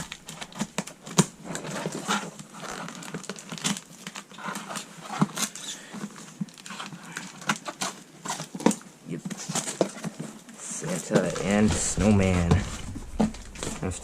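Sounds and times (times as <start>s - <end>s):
cardboard and paper rustling: 0.0s - 14.0s.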